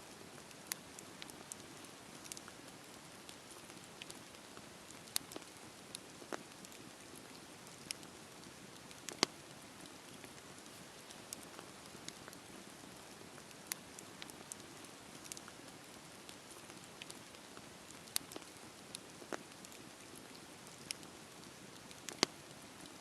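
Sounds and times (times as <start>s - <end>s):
campfire crackling and popping: 0.1s - 23.0s.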